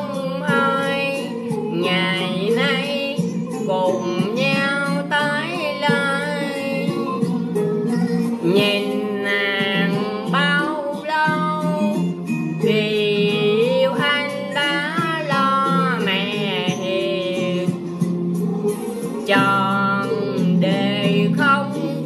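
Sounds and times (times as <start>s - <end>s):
man singing in a high voice: 0.0s - 7.4s, 8.1s - 12.0s, 12.6s - 17.8s, 19.2s - 22.0s
instrumental backing music: 0.0s - 22.0s.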